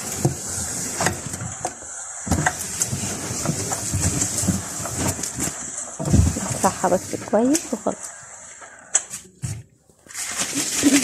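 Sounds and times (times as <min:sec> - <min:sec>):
cloth rubbing a shelf: 0:00.0 - 0:08.2, 0:09.4 - 0:11.0
steady hiss: 0:00.0 - 0:09.4.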